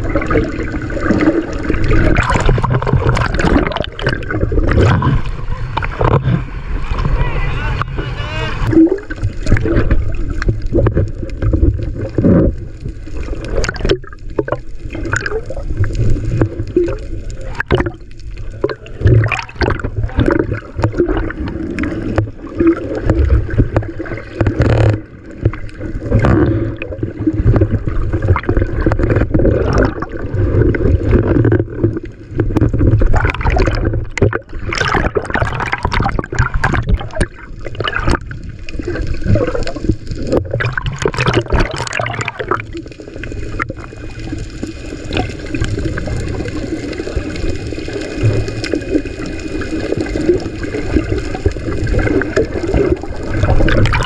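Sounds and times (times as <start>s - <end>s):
seawater sloshing and gurgling: 0.0s - 54.0s
water splashes: 0.0s - 54.0s.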